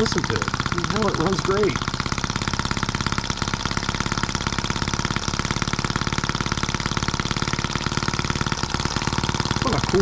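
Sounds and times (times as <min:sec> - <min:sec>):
model engine running: 0:00.0 - 0:10.0.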